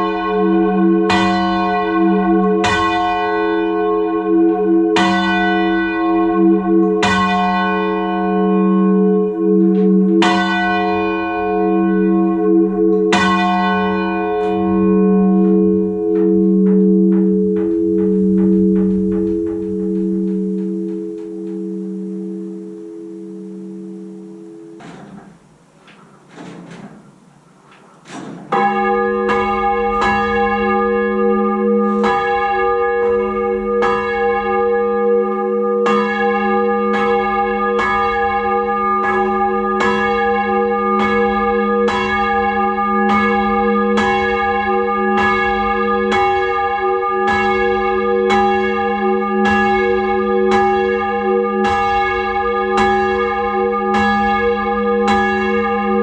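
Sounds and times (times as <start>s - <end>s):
church bells ringing: 0.0s - 25.6s, 28.0s - 56.0s.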